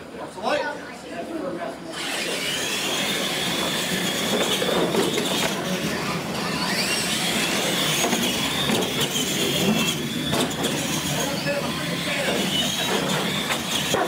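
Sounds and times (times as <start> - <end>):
toy truck motor whine: 1.9 - 14.0
tyres on concrete: 2.0 - 14.0.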